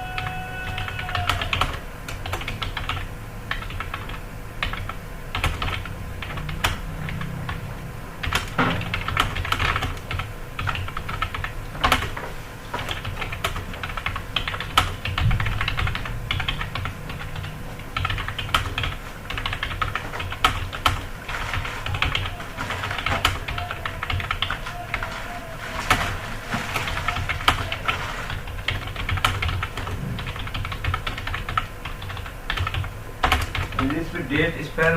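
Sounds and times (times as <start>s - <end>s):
fast typing on computer keyboard: 0.0s - 34.1s.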